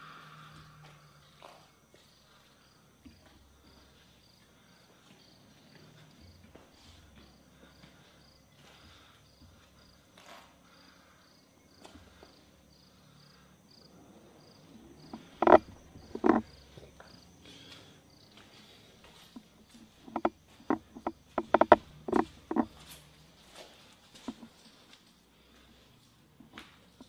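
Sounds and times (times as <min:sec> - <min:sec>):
insect chirping: 0:00.0 - 0:27.0.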